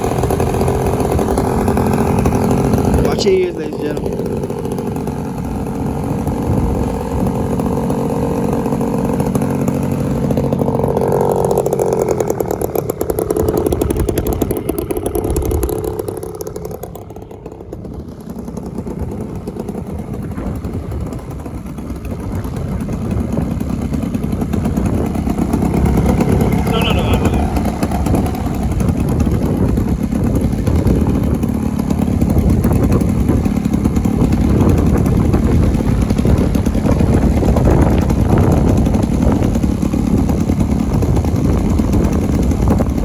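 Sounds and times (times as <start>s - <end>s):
model airplane engine buzzing: 0.0s - 43.0s.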